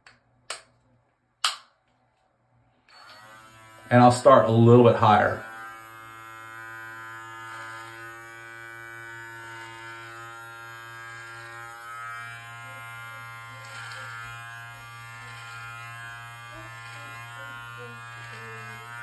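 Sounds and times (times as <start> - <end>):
beard trimmer buzzing: 2.9 - 19.0
trimmer cutting hair: 2.9 - 19.0.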